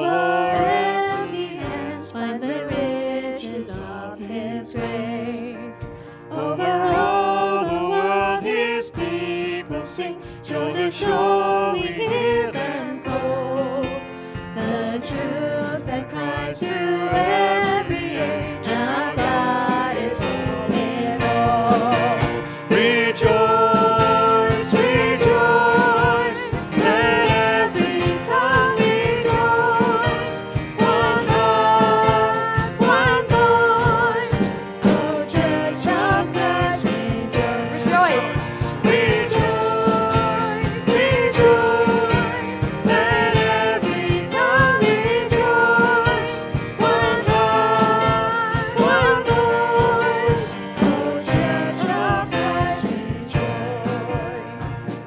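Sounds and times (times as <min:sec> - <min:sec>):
instrumental accompaniment: 0:00.0 - 0:55.0
voices singing worship song: 0:00.0 - 0:55.0.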